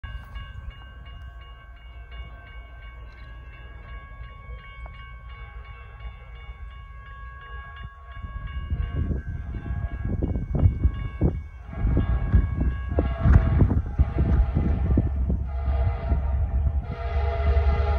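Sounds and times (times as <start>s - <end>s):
railroad crossing bell ringing: 0.0s - 17.9s.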